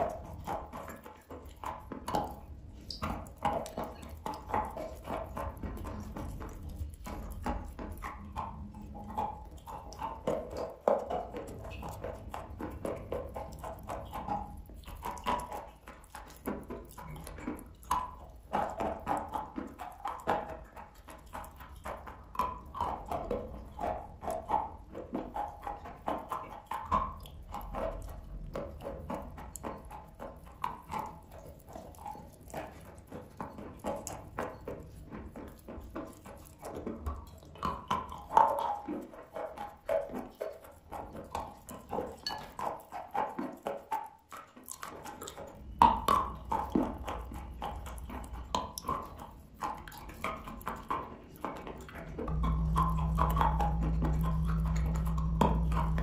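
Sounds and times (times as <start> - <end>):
chewing chalk with wet crunching: 0.0 - 56.0.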